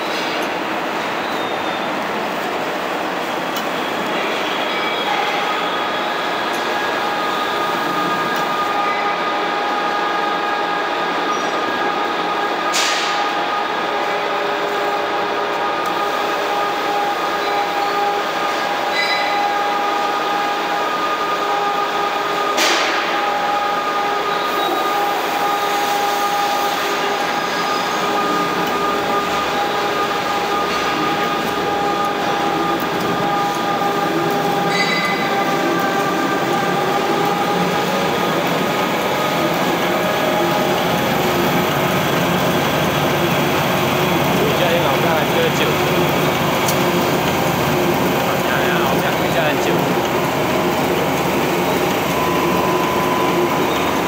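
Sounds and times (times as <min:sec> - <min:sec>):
machine whining tones: 0:03.2 - 0:54.0.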